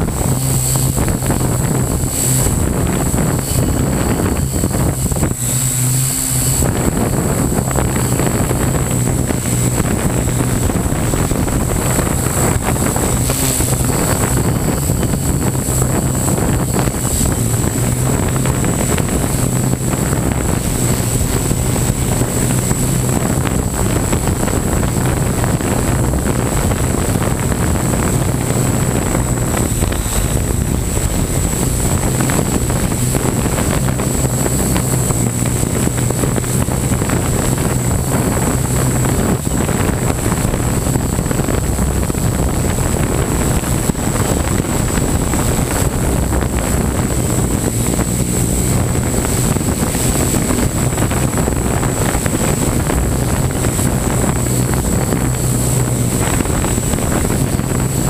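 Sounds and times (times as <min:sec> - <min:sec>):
drone propellers droning: 0:00.0 - 0:58.0
wind noise on microphone: 0:00.0 - 0:58.0.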